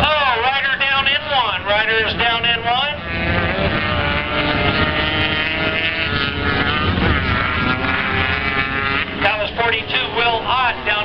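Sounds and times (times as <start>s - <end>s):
racing motorcycle engines: 0.0s - 11.0s.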